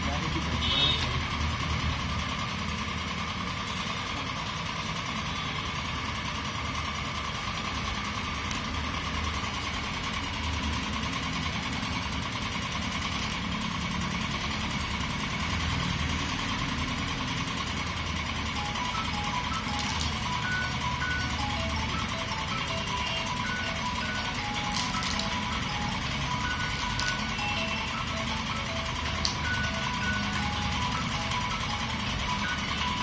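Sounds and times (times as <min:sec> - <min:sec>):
mechanical rumble and hum: 0:00.0 - 0:33.0.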